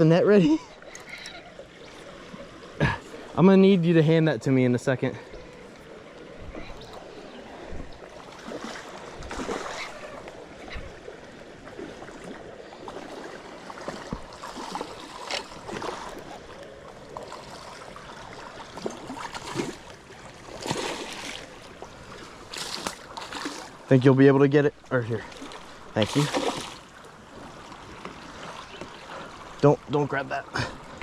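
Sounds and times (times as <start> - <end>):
flowing river water: 0.0 - 31.0
water splashes: 0.0 - 31.0.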